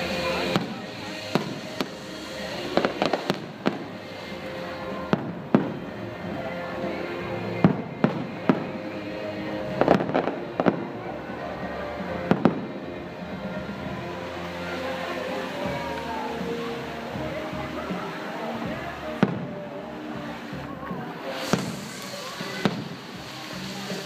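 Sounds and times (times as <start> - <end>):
fireworks bangs: 0.0 - 6.4, 7.0 - 11.1, 11.9 - 16.9, 18.0 - 19.6, 20.3 - 24.0
background music: 0.0 - 24.0.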